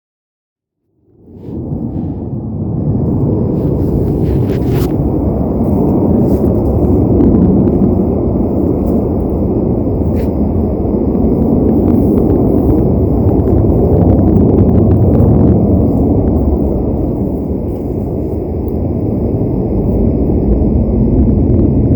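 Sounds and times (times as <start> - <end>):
loud low roar: 1.2 - 21.9.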